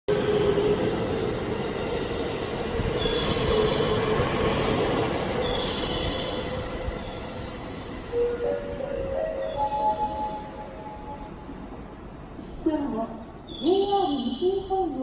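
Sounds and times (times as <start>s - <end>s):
electric train rumble: 0.1s - 13.5s.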